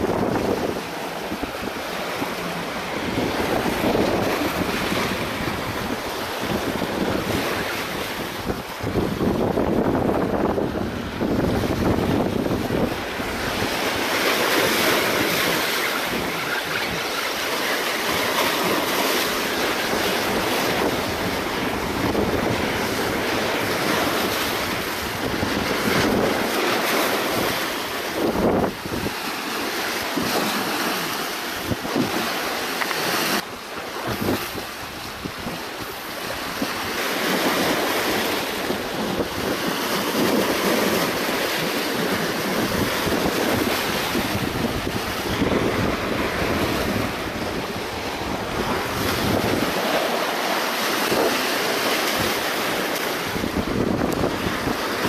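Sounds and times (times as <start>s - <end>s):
waves breaking against rocks: 0.0s - 55.0s
wind buffeting microphone: 0.0s - 55.0s.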